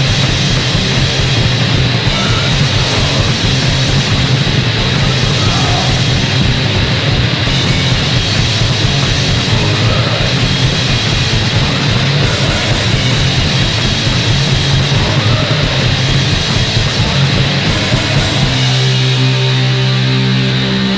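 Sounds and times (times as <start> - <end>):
distorted punk rock band: 0.0 - 20.9.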